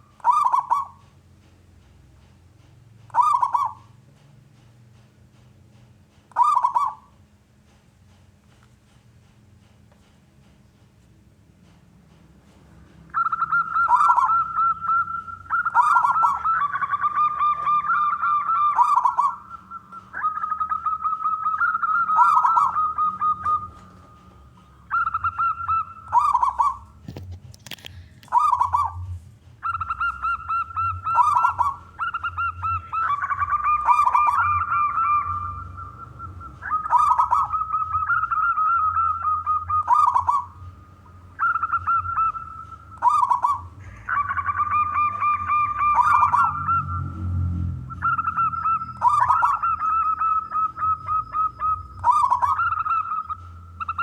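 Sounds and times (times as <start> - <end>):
doves cooing: 0.0 - 1.1, 3.0 - 4.0, 6.3 - 7.2, 12.9 - 54.0.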